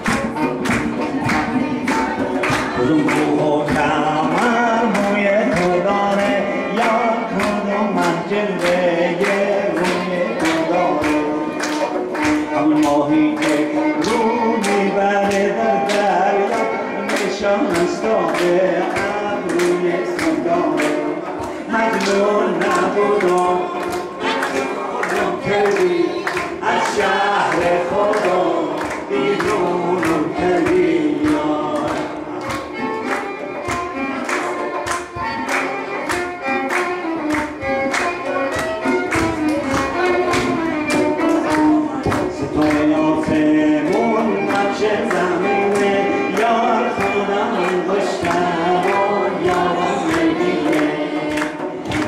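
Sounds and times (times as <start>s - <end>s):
audience clapping along: 0.0s - 52.0s
people singing: 0.0s - 52.0s
violin: 0.0s - 52.0s.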